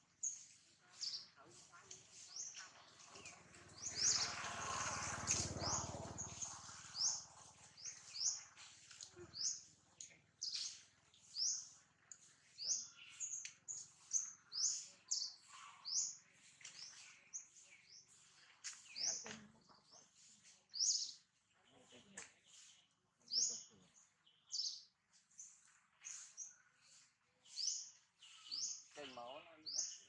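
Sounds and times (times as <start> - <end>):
small bird chirping: 0.0 - 30.0.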